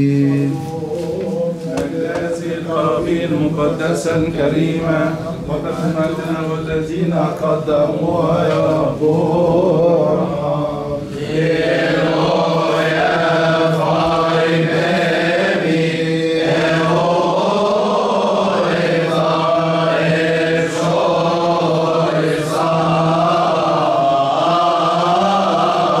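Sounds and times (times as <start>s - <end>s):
men chanting a hymn in unison: 0.0s - 26.0s.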